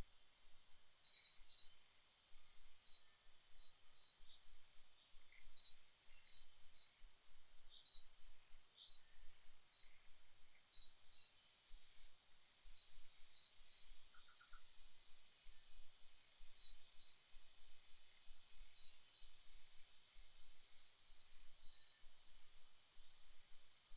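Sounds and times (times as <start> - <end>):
outdoor ambience hiss: 0.0 - 23.9
small birds chirping: 0.8 - 22.4.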